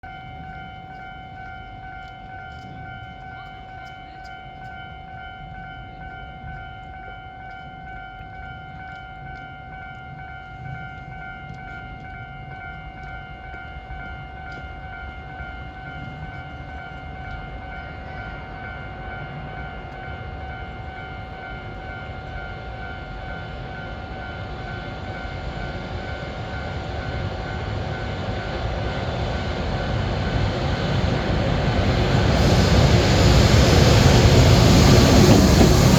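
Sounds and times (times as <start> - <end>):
level crossing warning bell: 0.0 - 35.9
train rumble: 0.0 - 35.9.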